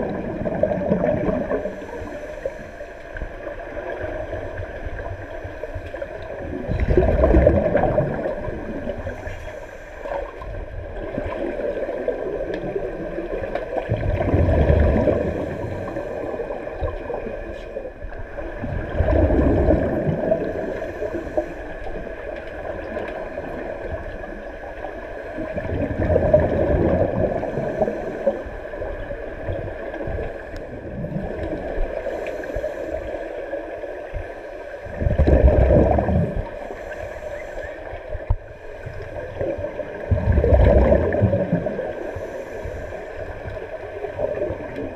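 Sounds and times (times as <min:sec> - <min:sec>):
steady underwater hum: 0:00.0 - 0:44.9
underwater exhaust bubbles gurgling: 0:00.0 - 0:44.9.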